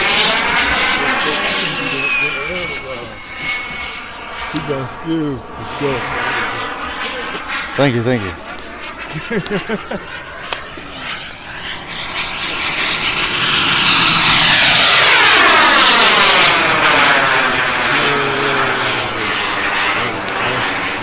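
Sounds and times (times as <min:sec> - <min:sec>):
model jet turbine whine passing: 0:00.0 - 0:21.0.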